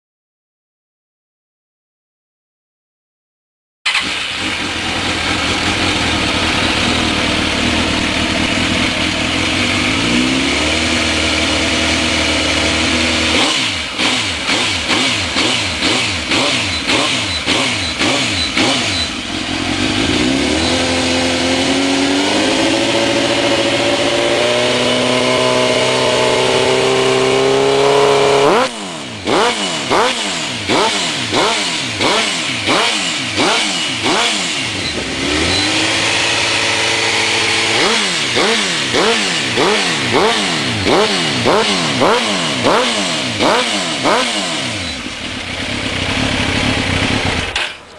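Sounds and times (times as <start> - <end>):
motorcycle engine revving: 3.9 - 47.9.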